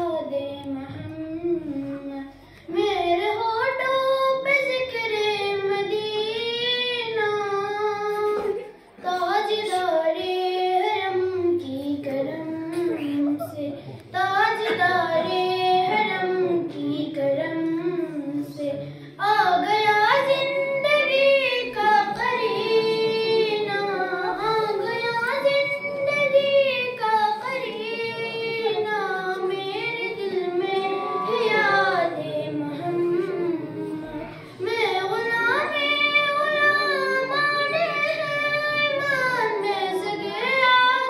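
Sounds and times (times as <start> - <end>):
girl singing unaccompanied: 0.0 - 41.0.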